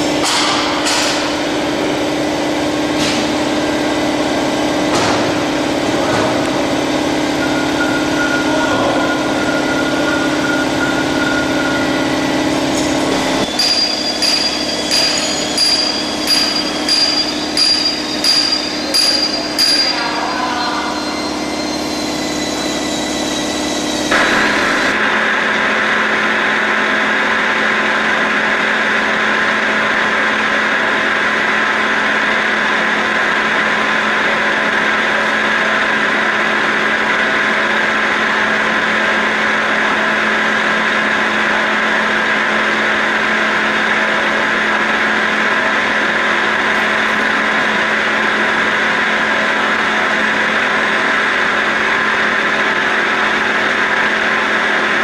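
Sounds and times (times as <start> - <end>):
lathe machine hum: 0.0 - 55.0.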